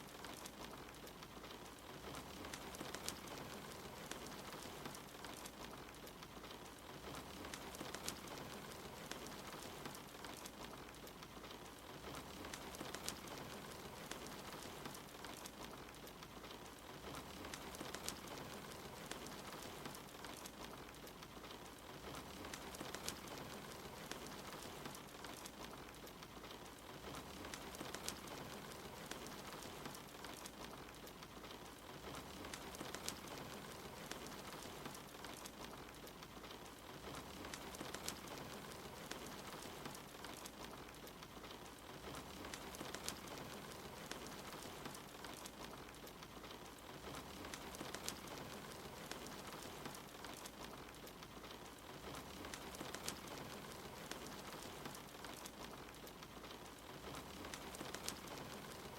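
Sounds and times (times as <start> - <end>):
soft steady rain: 0.0 - 58.9
wood fire crackling: 0.0 - 58.9.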